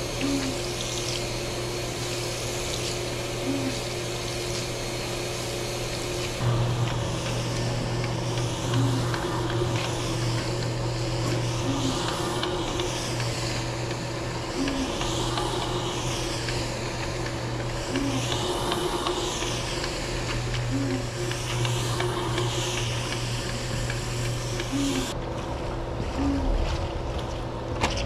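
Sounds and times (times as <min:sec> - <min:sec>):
floor scrubber brush scrubbing rug: 0:00.0 - 0:26.8
motor hum: 0:00.0 - 0:28.0.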